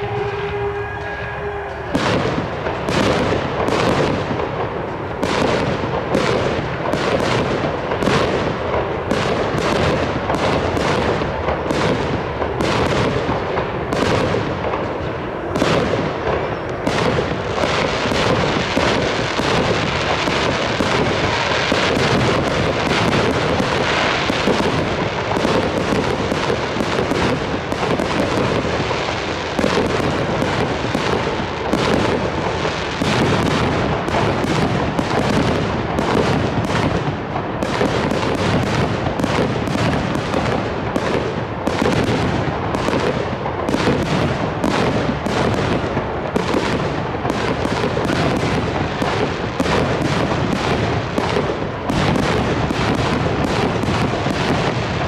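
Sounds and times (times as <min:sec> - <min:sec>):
fireworks bangs: 0:00.0 - 0:55.0
fireworks crackle: 0:00.0 - 0:55.0.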